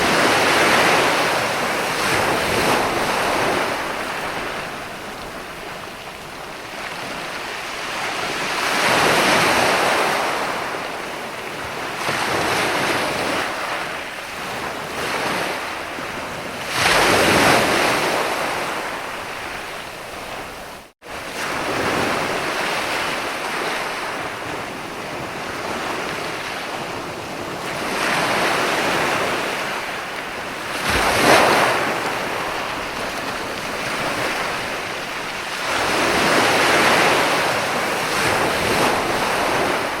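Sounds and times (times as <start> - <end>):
ocean waves breaking: 0.0 - 40.0.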